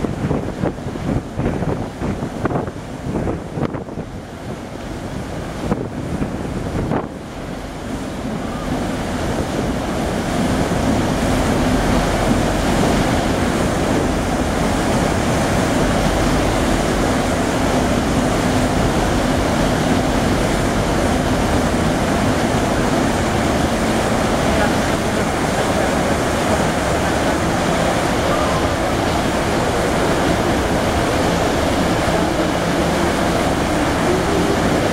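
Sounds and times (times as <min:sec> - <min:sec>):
ship low drone: 0:00.0 - 0:34.9
water rushing along hull: 0:00.0 - 0:34.9
wind buffeting microphone: 0:00.0 - 0:34.9.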